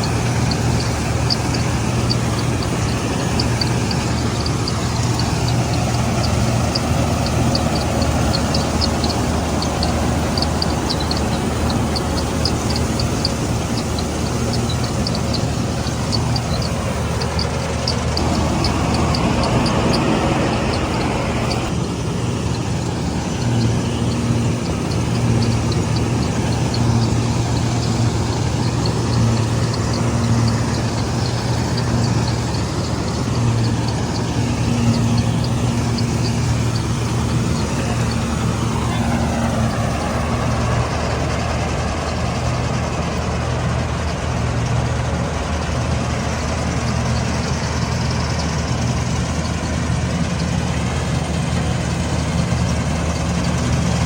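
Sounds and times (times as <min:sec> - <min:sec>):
combine harvester engine hum: 0:00.0 - 0:54.0
high mechanical ticking: 0:00.0 - 0:54.0.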